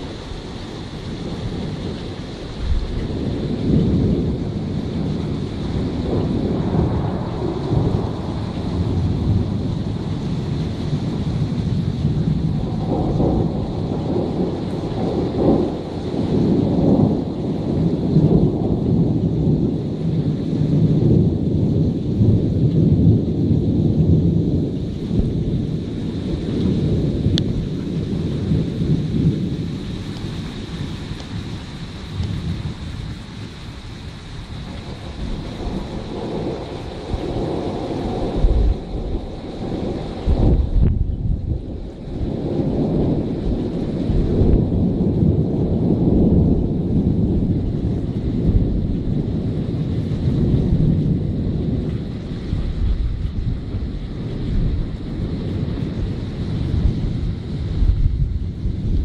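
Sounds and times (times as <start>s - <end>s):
rolling thunder: 0.0s - 59.0s
steady rain: 0.0s - 59.0s.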